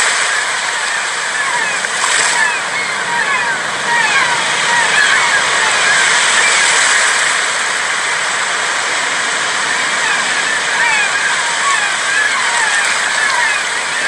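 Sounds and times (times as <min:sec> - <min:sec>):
waves washing onto beach: 0:00.0 - 0:14.0.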